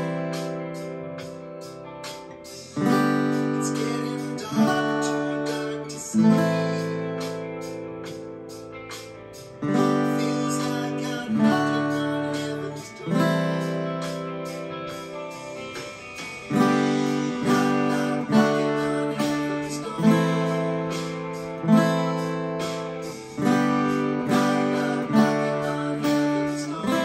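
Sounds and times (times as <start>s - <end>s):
acoustic guitar strumming chords: 0.0s - 27.0s
backing track with steady beat: 0.0s - 27.0s.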